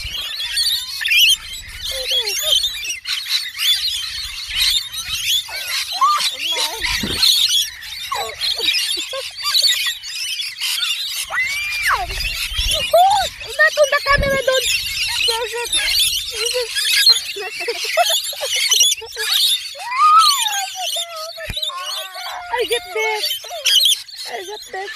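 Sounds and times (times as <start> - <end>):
flock of birds chattering: 0.0 - 24.9
rising-and-falling squawk: 0.0 - 24.9
shrill bird call: 0.0 - 24.9.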